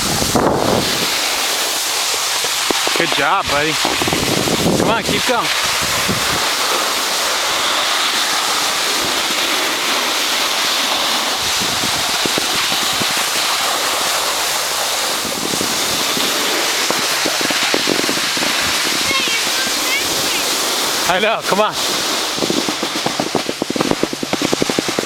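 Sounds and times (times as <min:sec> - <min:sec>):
snowboard sliding over snow: 0:00.0 - 0:25.0
wind on microphone: 0:00.0 - 0:25.0.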